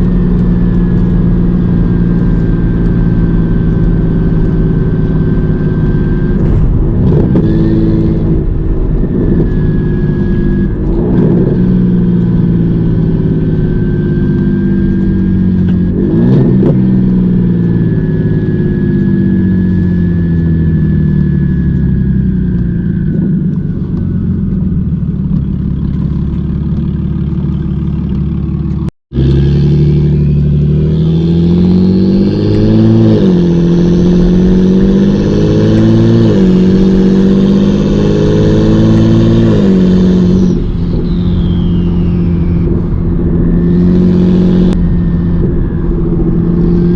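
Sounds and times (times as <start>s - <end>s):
car engine revving: 0.0s - 46.9s
exhaust cracks: 0.0s - 46.9s
thin high whine: 1.5s - 24.4s, 31.9s - 46.9s.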